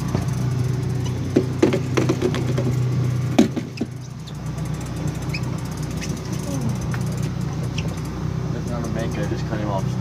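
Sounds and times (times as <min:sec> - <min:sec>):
gear knocking against boat: 0:00.0 - 0:09.2
boat engine idling: 0:00.0 - 0:10.0.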